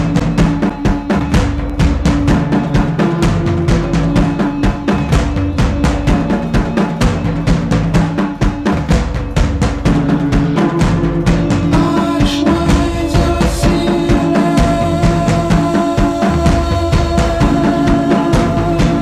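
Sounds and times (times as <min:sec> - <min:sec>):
fast drum-kit beat: 0:00.0 - 0:19.0
held low notes: 0:00.0 - 0:19.0.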